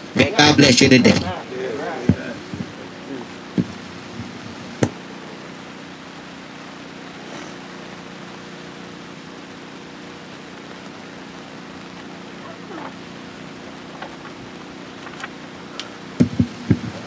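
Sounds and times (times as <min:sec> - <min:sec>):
faint low hum: 0:00.0 - 0:17.0
outdoor background rush: 0:00.0 - 0:17.0.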